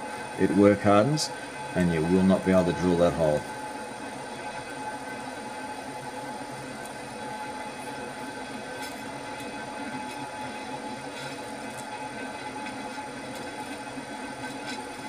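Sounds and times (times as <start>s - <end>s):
drill press hum with whine: 0.0s - 15.0s.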